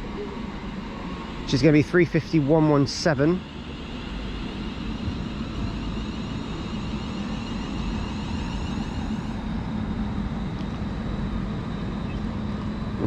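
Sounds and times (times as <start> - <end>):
electric train rumble: 0.0 - 13.0
traction motor whine: 0.0 - 13.0.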